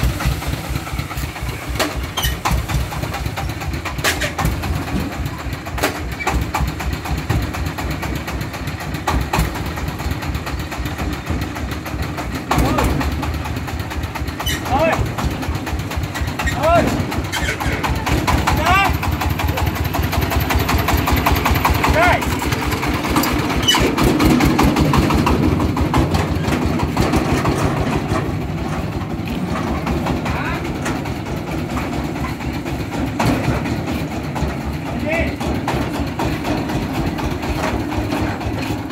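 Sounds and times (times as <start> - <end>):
diesel engine chugging: 0.0 - 38.9
sharp engine knocks: 0.0 - 38.9.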